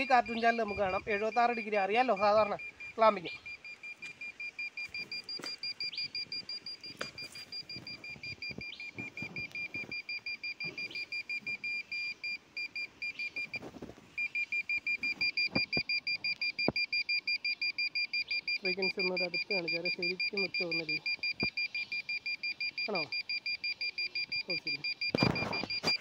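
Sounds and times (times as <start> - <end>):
meter beeping rapidly: 0.0 - 13.6, 14.2 - 26.0.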